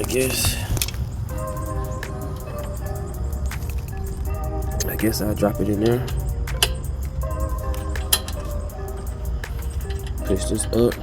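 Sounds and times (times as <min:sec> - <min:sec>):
background music: 0:00.0 - 0:11.0
metallic clink: 0:00.0 - 0:11.0.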